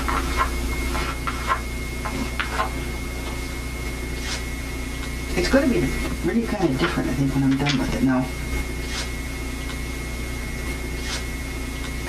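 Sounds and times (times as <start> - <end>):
low hum and hiss: 0.0 - 12.0
thin high whine: 0.0 - 12.0.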